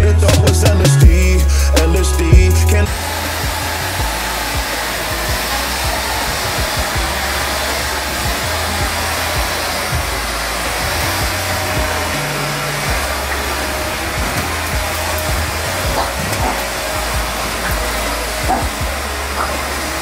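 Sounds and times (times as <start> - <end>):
vacuum cleaner running on carpet: 2.9 - 20.0.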